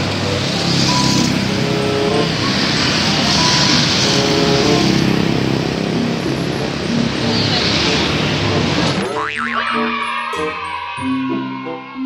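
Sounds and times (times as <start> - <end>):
motorcycles passing: 0.0 - 11.9
road traffic: 0.0 - 12.0.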